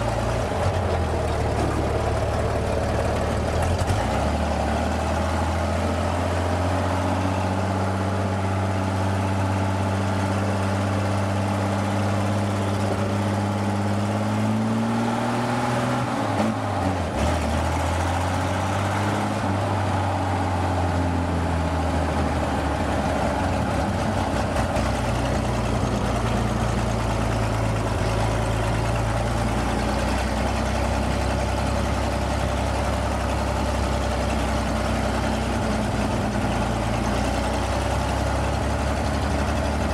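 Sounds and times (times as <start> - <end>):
pickup truck engine running: 0.0 - 14.2, 16.2 - 39.9.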